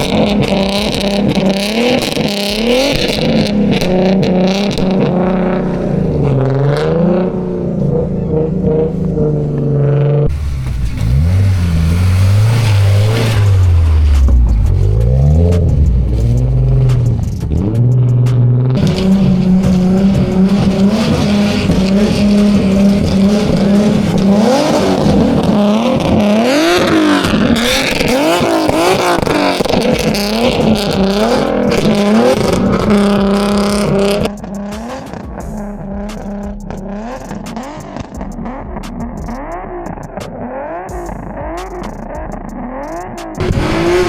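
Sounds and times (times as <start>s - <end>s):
car engine revving hard: 0.0s - 44.0s.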